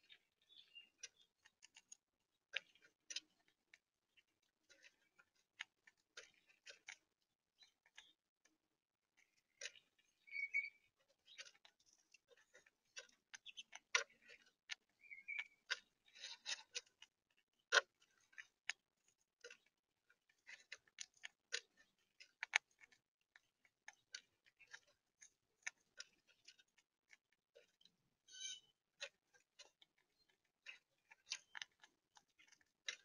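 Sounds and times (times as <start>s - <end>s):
squirrel gnawing and cracking food: 0.0s - 33.0s.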